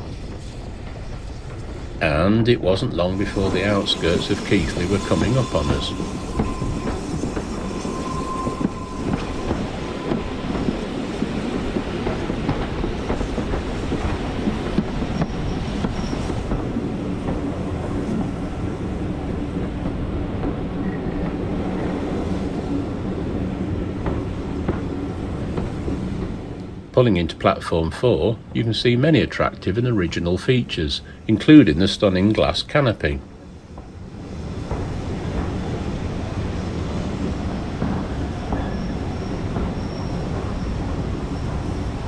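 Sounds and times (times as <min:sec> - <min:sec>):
clickety-clack over rail joints: 0:00.0 - 0:42.0
wheels rumbling on rail: 0:00.0 - 0:42.0.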